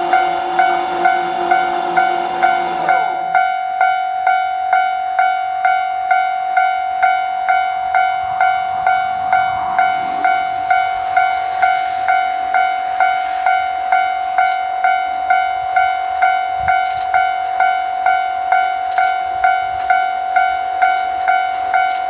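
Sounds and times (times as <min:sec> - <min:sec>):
diesel railcar running past: 0:00.0 - 0:21.9
level crossing warning bell: 0:00.0 - 0:22.0.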